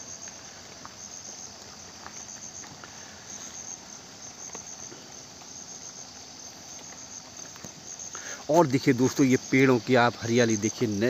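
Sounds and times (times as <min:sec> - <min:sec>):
light rain pattering into puddle: 0:00.0 - 0:11.0
pulsing insect trill: 0:00.0 - 0:11.0.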